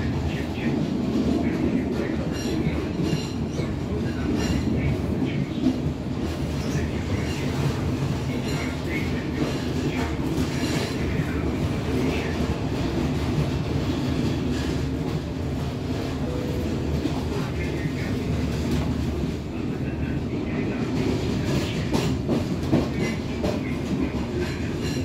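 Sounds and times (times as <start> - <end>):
clickety-clack over rail joints: 0.0 - 16.2, 16.9 - 25.0
train wheels rumbling on rails: 0.0 - 25.0.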